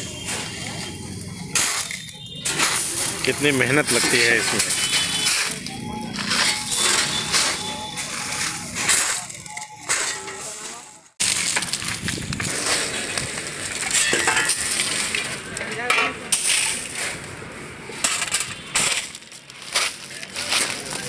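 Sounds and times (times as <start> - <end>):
shovels scraping gravel: 0.0 - 21.0.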